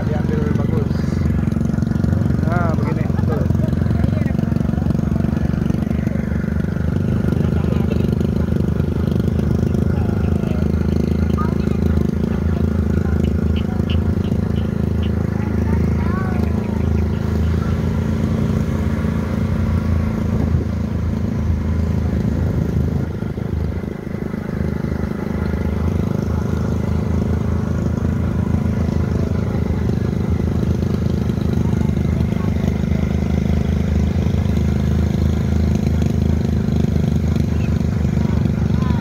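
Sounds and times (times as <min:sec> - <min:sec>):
small petrol engine running: 0:00.0 - 0:39.0.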